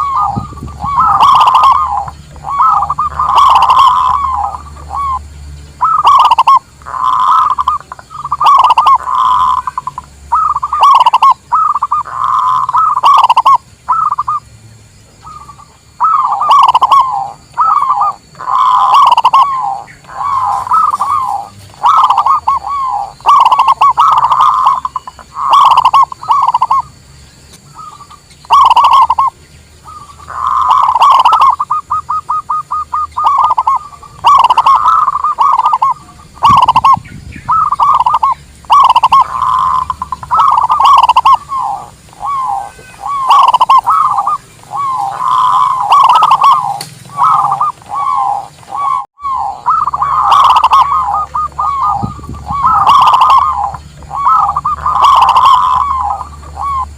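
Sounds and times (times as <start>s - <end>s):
dove cooing: 0.0s - 14.4s, 15.2s - 27.0s, 27.6s - 56.9s.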